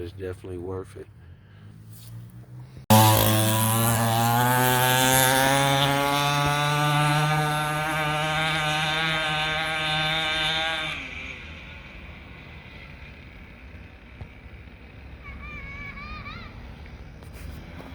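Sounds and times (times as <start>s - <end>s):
small dirt bike engine buzzing: 1.5s - 17.9s.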